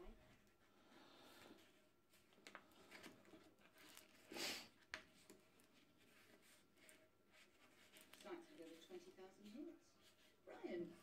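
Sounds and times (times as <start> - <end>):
backing sheet peeling and rustling: 1.3 - 10.3.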